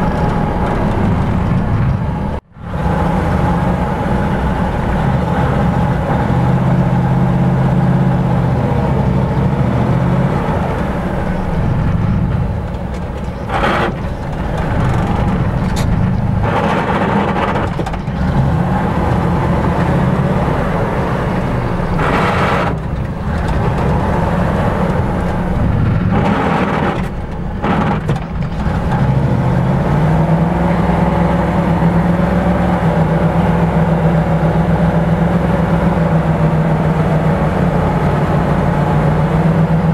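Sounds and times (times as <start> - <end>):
truck engine running under load: 0.0 - 39.9.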